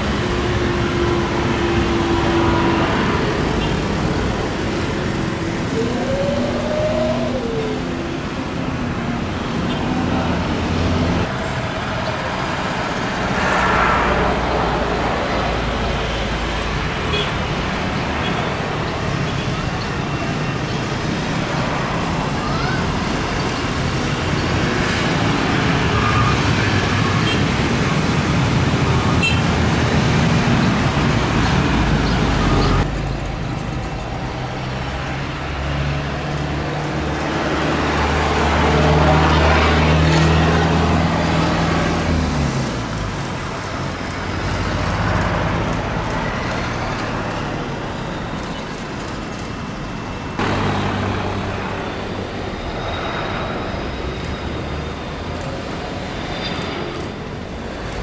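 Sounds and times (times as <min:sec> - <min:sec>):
landing airliner engine drone: 0:00.0 - 0:17.0, 0:17.7 - 0:58.0
jet engines running loud: 0:00.0 - 0:58.0.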